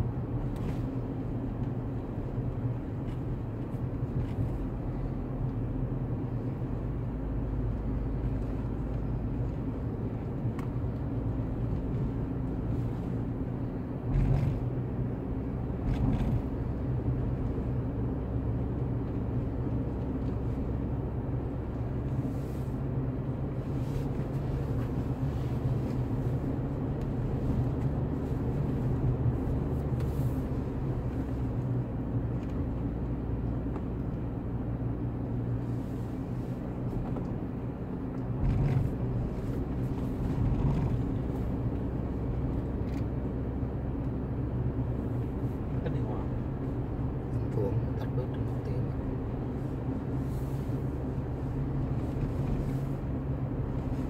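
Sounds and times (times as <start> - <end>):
car engine hum: 0.0 - 54.0.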